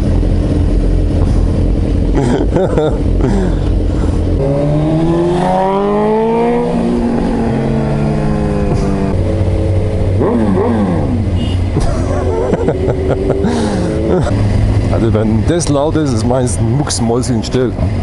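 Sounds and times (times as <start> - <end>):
motorcycle engine accelerating: 0.0 - 16.7.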